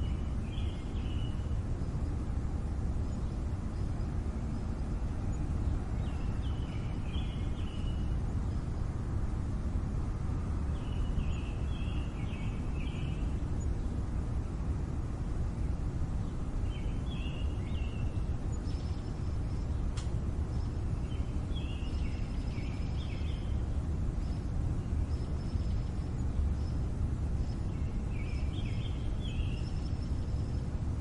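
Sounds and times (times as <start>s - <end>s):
bird singing: 0.0s - 2.2s, 3.0s - 9.0s, 10.2s - 14.3s, 15.4s - 30.9s
traffic rumble: 0.0s - 31.0s.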